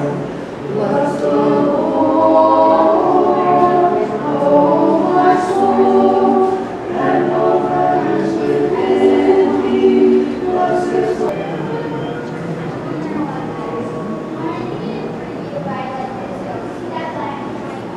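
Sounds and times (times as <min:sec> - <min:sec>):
choir singing a cappella: 0:00.0 - 0:15.2.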